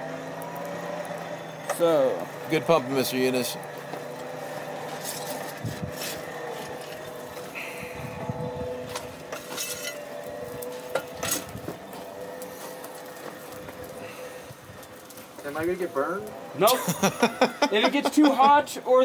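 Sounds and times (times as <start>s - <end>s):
forge blower whine: 0.0s - 19.0s
metal tools clinking in coal: 0.5s - 7.8s, 8.9s - 18.5s.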